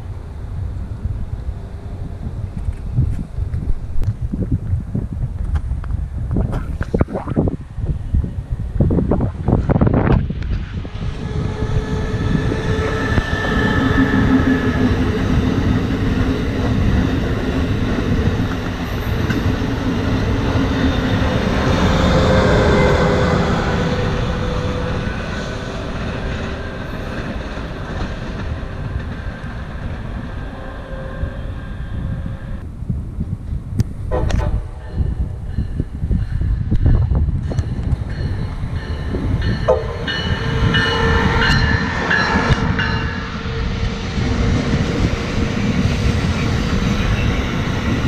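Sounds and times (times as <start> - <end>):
high-speed train passing: 0.0 - 48.0
wind on microphone: 0.0 - 48.0.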